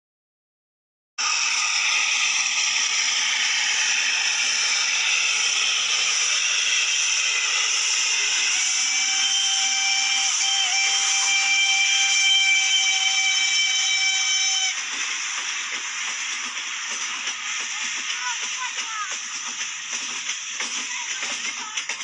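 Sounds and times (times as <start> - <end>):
steam locomotive hissing: 1.2 - 22.0.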